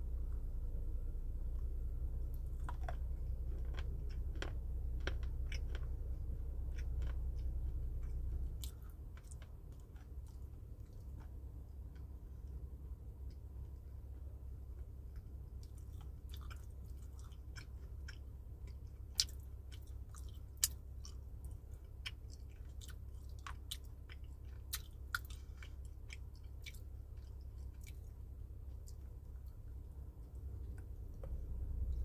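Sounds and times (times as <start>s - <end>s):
steady low hum: 0.0s - 32.0s
crunching and chewing dry fruit: 1.4s - 32.0s.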